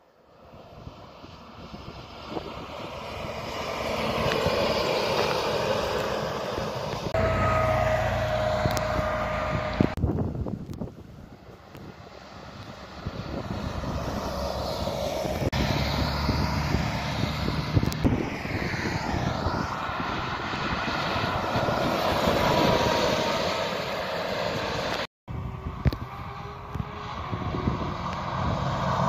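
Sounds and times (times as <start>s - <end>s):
bus driving past: 0.0s - 29.0s.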